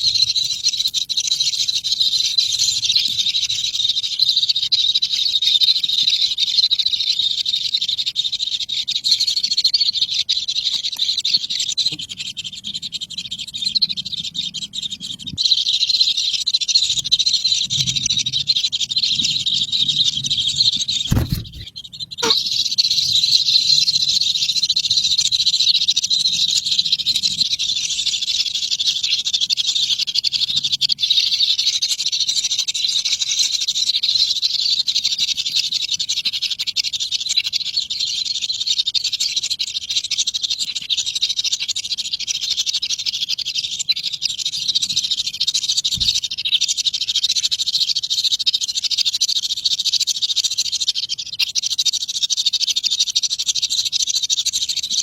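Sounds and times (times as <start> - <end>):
high-pitched animal chorus: 0.0 - 55.0.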